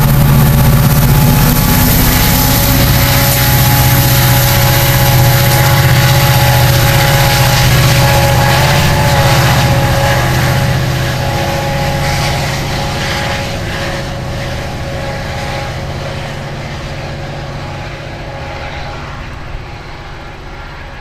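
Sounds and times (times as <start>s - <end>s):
diesel locomotive engine drone: 0.0s - 21.0s
locomotive steady whine: 0.0s - 21.0s.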